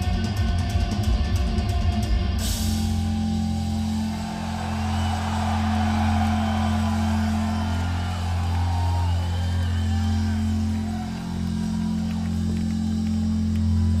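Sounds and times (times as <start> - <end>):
metal band guitars and bass drone: 0.0 - 14.0.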